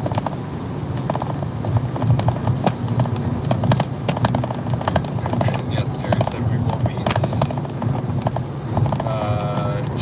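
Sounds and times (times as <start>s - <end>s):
tyre and engine rumble in car: 0.0s - 10.0s.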